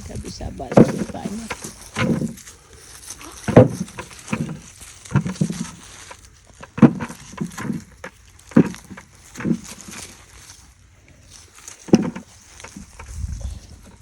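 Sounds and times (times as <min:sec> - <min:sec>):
apples thudding as they drop: 0:00.0 - 0:14.0.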